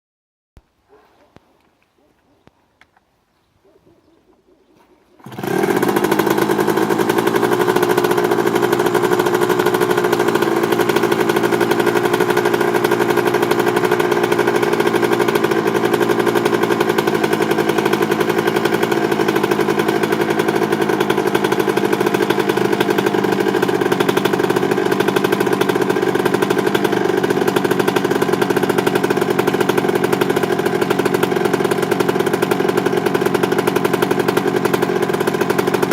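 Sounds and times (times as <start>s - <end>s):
dirt bike engine starting and running: 5.2s - 35.9s.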